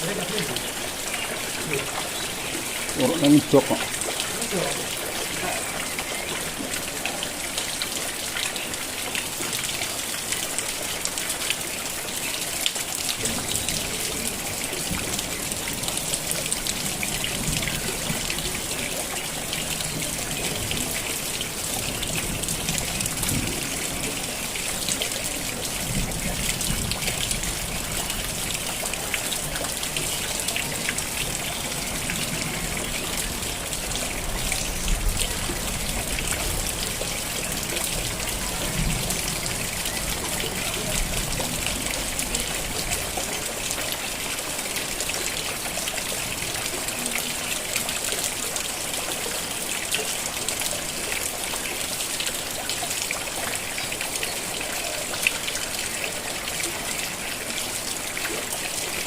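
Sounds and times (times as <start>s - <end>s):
steady rain with ticking drops: 0.0s - 59.0s.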